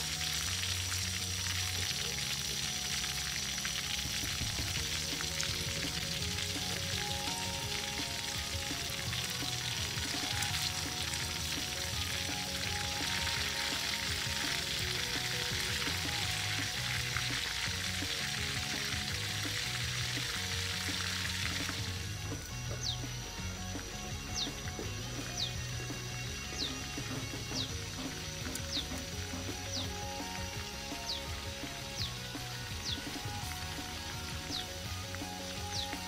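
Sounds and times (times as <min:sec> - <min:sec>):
background music: 0:00.0 - 0:36.0
quail sizzling in hot oil: 0:00.0 - 0:36.0.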